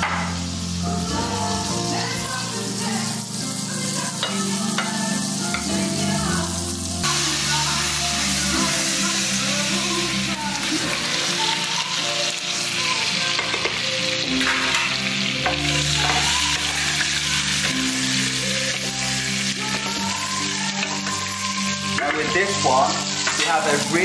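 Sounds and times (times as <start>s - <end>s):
steak sizzling in a pan: 0.0s - 24.0s.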